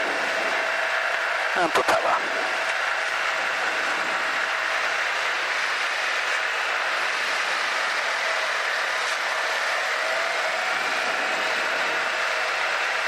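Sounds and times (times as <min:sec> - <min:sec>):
propeller aircraft engine running: 0:00.0 - 0:13.0.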